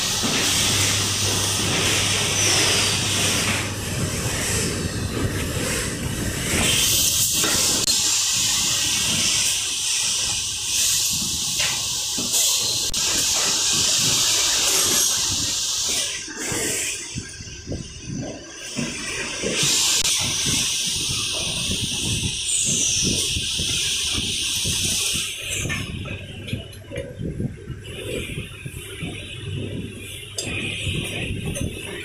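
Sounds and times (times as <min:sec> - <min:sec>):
hissing factory machinery: 0:00.0 - 0:32.0.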